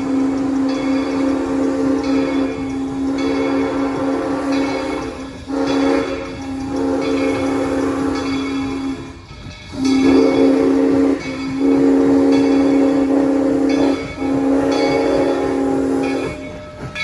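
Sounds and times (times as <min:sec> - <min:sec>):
train horn blasts: 0:00.0 - 0:16.6.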